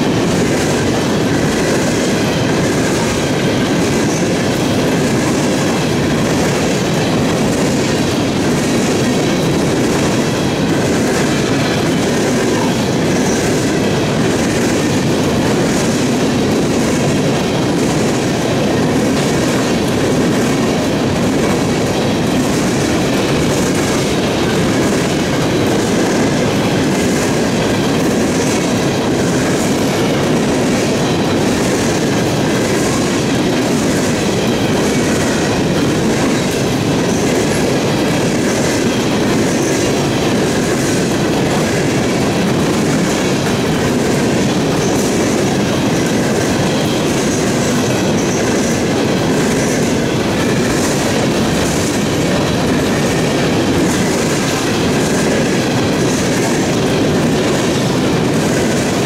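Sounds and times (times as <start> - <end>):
train wheels rumbling on rail: 0.0 - 59.0
wheels clattering over rail joints: 0.0 - 59.0.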